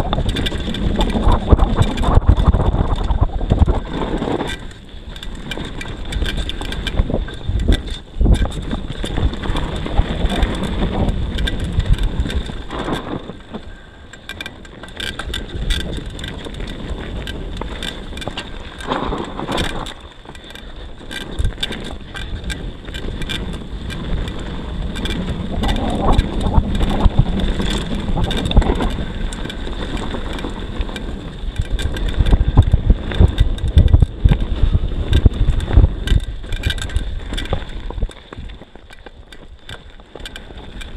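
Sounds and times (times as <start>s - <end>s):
wind on microphone: 0.0s - 13.9s, 15.1s - 40.9s
bike rattles and knocks: 0.0s - 40.9s
tyres crunching over gravel: 0.0s - 40.9s.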